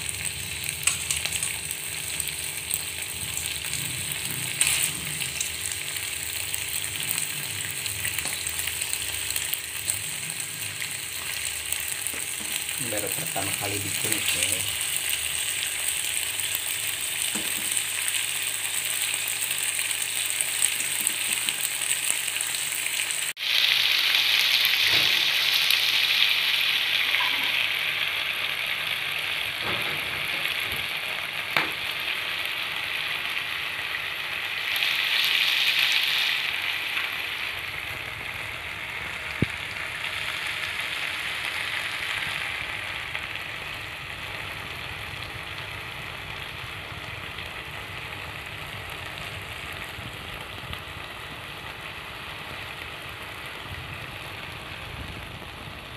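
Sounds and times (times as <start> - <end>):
chicken sizzling in a pan: 0.0 - 55.9.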